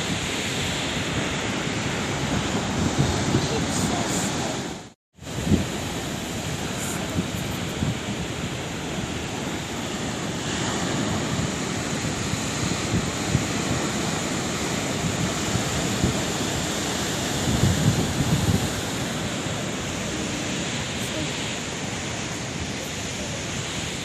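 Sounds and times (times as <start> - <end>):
sea waves washing onto shore: 0.0 - 24.0.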